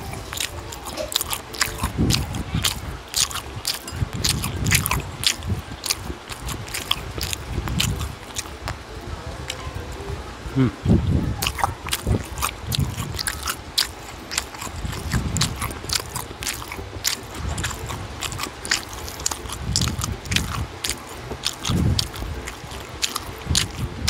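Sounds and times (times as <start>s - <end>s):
mouth clicks and smacks: 0.0s - 9.8s, 10.5s - 24.0s
soft chewing: 0.0s - 24.0s.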